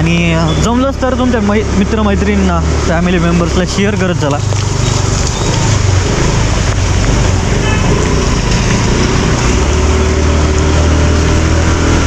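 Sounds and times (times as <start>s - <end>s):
motorcycle engine hum: 0.0s - 12.0s
road noise: 0.0s - 12.0s.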